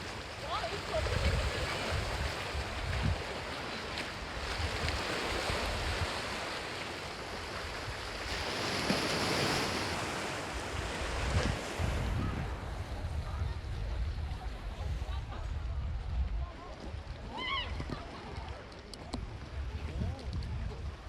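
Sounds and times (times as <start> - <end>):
wind rumbling on microphone: 0.0 - 3.6, 4.3 - 6.4, 7.5 - 21.0
sea waves washing on shore: 0.0 - 21.0.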